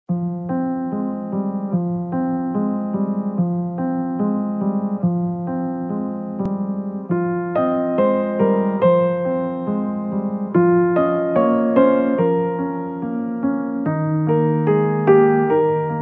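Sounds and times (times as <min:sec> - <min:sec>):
keyboard playing repeating chords: 0:00.1 - 0:16.0.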